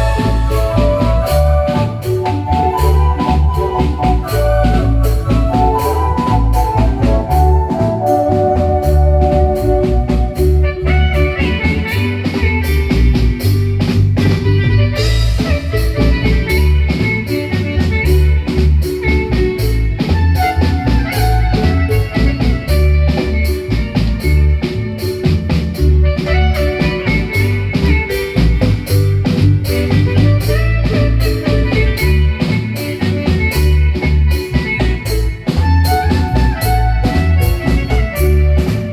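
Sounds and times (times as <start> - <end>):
bass line: 0.0 - 38.9
drum beat: 0.0 - 38.9
marimba notes: 0.0 - 38.9.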